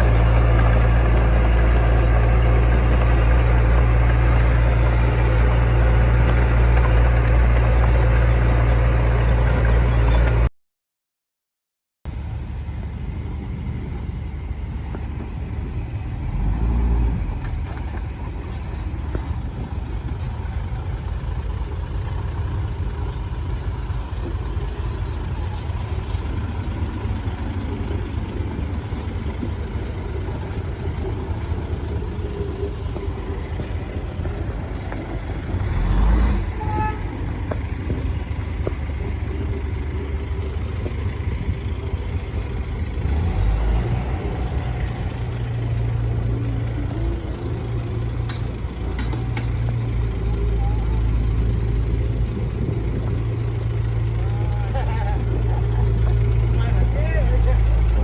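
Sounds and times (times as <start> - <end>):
diesel machinery rumbling: 0.0 - 10.5, 12.1 - 58.0.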